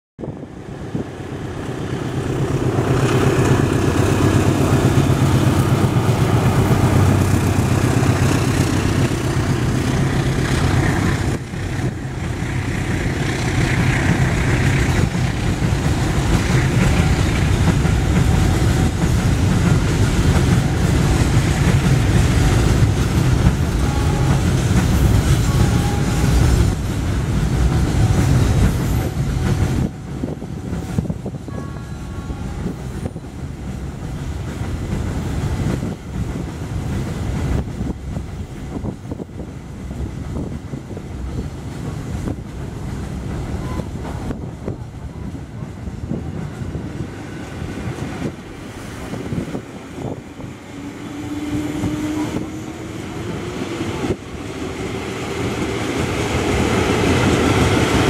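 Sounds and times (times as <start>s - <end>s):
freight train wheels rumbling and clattering: 0.2s - 58.0s.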